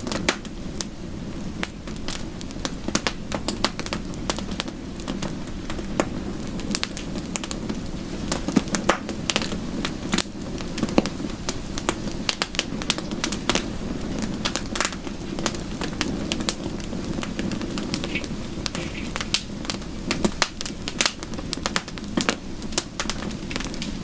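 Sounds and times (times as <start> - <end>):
fire crackling and popping: 0.0 - 24.0
soft rain: 0.0 - 24.0.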